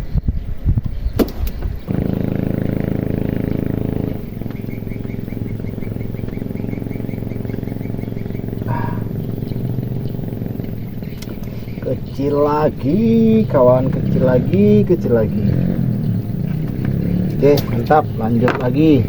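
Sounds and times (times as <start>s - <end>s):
small boat engine running: 1.2s - 19.0s.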